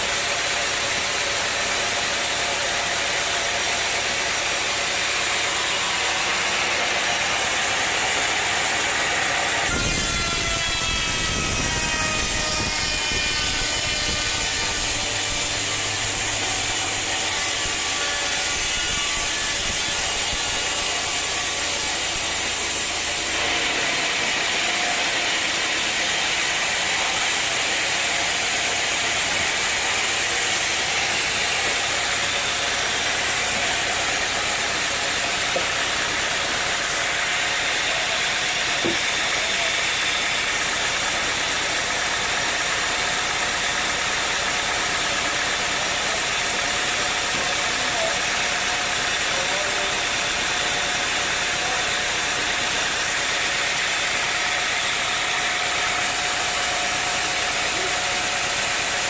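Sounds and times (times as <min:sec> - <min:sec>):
saw cutting through wood: 0:00.0 - 0:59.0
sawmill engine noise: 0:00.0 - 0:59.0.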